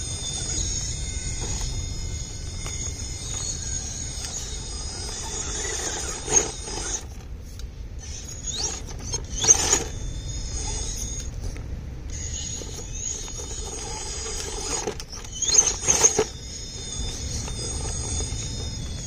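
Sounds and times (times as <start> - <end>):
rc car motor whining: 0.0 - 19.0.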